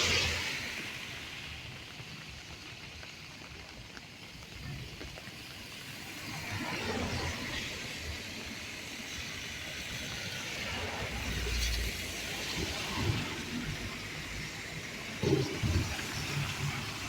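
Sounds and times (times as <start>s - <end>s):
cars passing on wet street: 0.0s - 17.0s
rain hiss: 0.0s - 17.0s.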